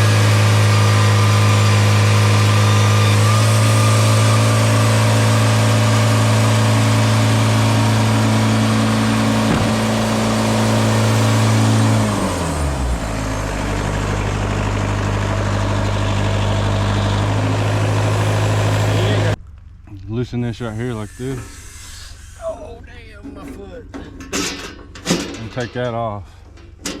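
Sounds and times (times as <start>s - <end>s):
sawmill gasoline engine running: 0.0s - 19.4s, 20.5s - 25.0s.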